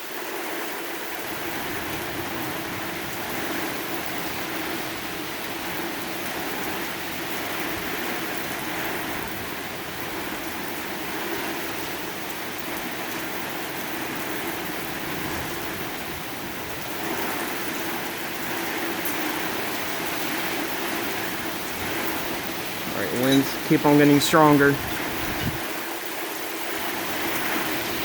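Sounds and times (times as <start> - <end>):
rain: 0.0 - 28.0
strong wind: 1.2 - 28.0.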